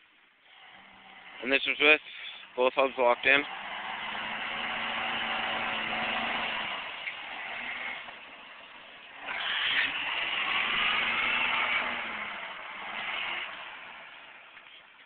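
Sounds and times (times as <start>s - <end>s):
car engine revving under load: 0.5s - 15.0s.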